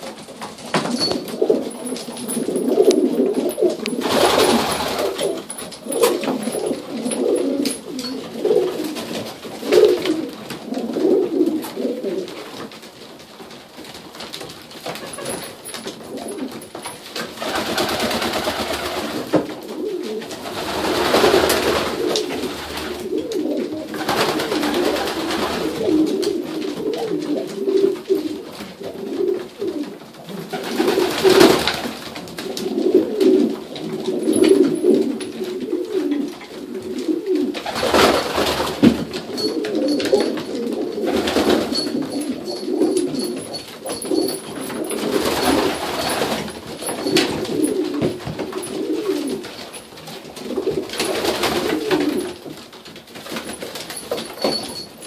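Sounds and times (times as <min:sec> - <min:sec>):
pigeons cooing: 0:00.9 - 0:12.4, 0:17.4 - 0:31.8, 0:32.4 - 0:49.8, 0:50.4 - 0:52.4.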